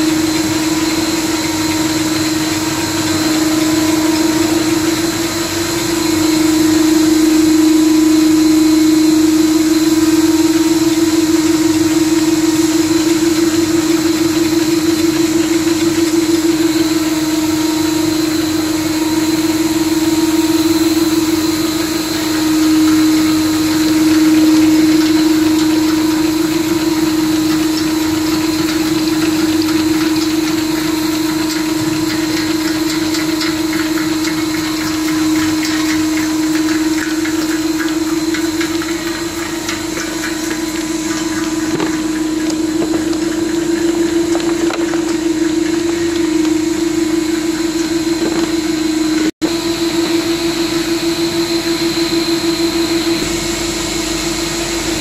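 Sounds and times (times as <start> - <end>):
tablet press machine humming: 0.0 - 53.1.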